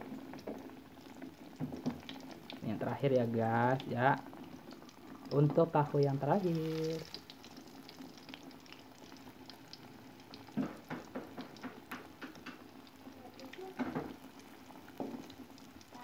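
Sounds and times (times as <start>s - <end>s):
tofu sizzling in hot oil: 0.0s - 16.0s.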